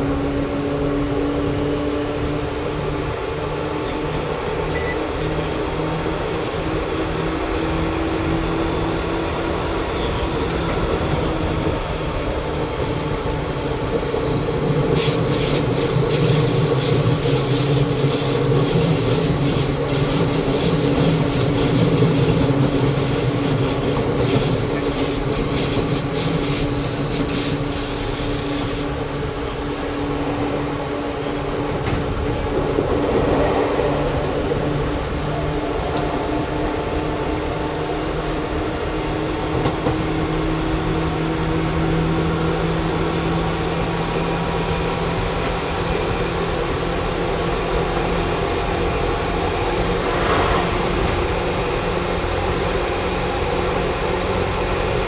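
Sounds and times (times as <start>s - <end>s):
train running gear hum: 0.0s - 55.0s.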